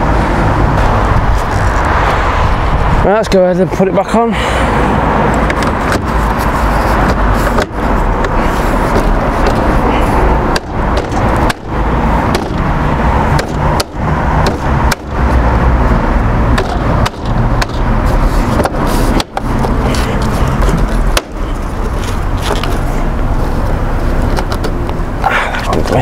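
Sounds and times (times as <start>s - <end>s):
continuous rumbling noise: 0.0s - 26.0s.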